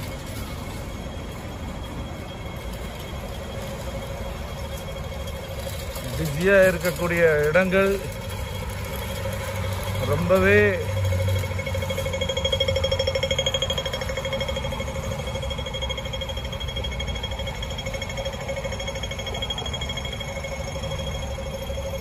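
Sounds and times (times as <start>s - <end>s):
crossing signal beeping: 0.0s - 22.0s.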